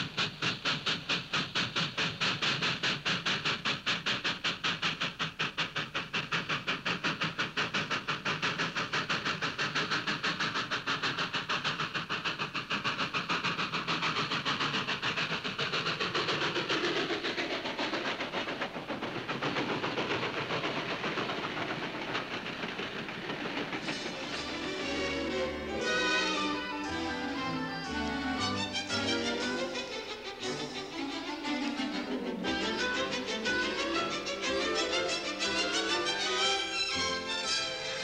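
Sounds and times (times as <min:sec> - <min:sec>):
steam locomotive chuffing: 0:00.0 - 0:38.0
train rolling past: 0:00.0 - 0:38.0.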